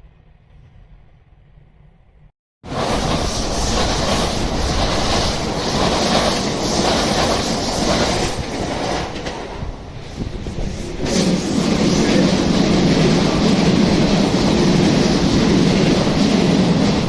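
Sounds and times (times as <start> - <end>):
train wheel and rail noise: 0.0 - 17.0.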